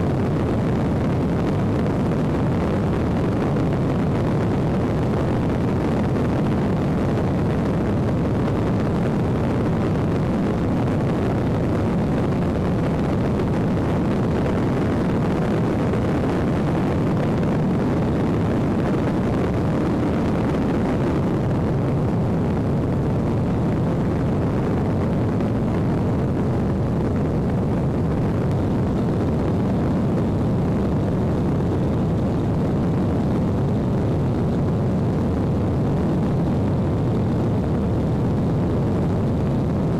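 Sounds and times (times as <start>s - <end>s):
airplane engine drone: 0.0s - 39.9s.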